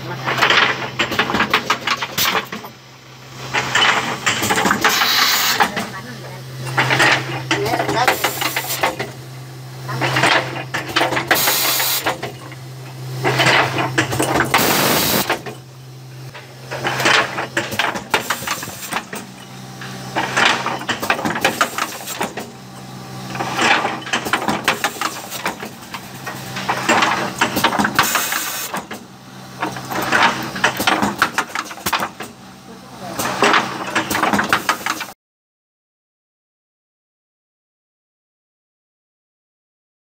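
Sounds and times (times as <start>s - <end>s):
motor hum: 0.0s - 34.9s
clattering mechanical strokes: 0.0s - 35.2s.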